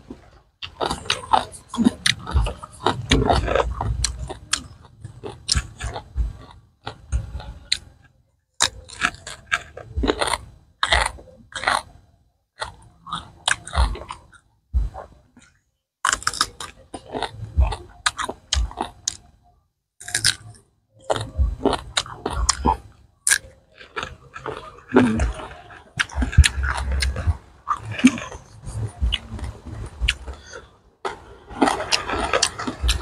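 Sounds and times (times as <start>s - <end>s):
chewing crisp vegetables: 0.1s - 19.3s, 20.0s - 33.0s.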